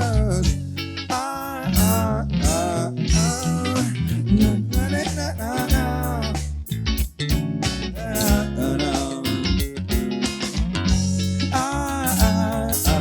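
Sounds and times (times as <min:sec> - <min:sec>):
band music with guitar and bass: 0:00.0 - 0:13.0.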